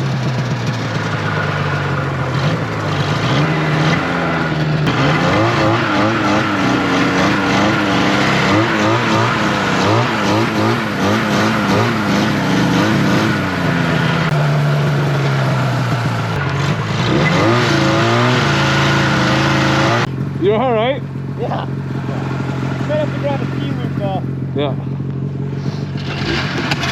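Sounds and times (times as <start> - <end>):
snowmobile engine revving: 0.0 - 26.9.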